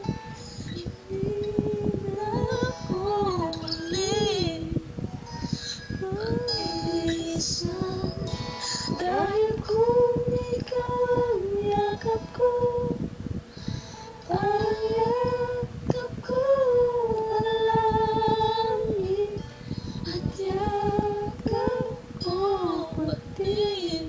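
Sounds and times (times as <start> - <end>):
woman singing slow melody: 0.0 - 13.2, 14.2 - 24.0.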